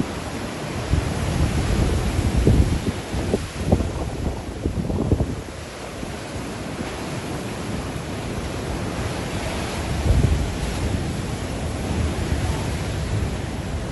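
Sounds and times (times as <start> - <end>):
surf breaking on shore: 0.0 - 13.9
wind buffeting microphone: 0.0 - 13.9.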